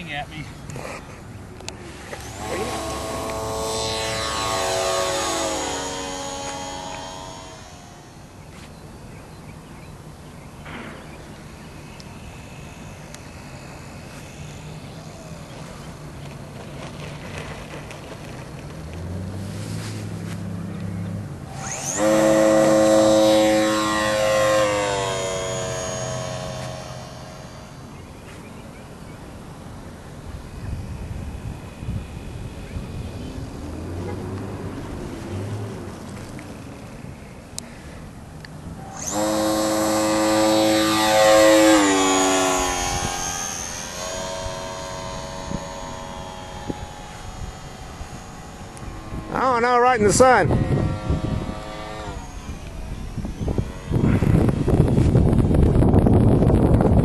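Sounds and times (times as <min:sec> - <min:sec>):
model airplane engine droning: 0:00.0 - 0:57.0.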